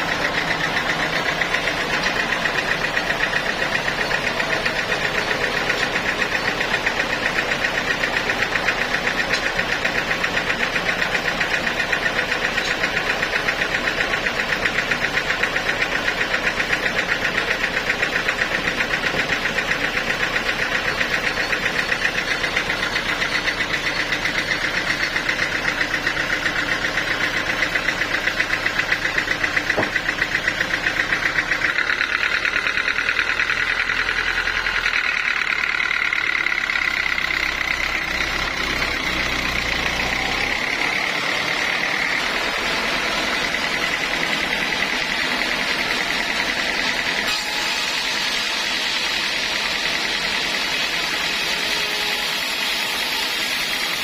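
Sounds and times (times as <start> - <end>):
sawmill machinery droning: 0.0 - 54.0.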